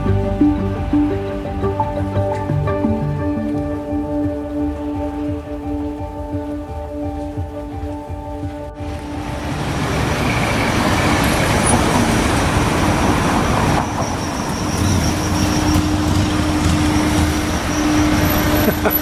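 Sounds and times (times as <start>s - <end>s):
vehicles passing on street: 0.0s - 19.0s.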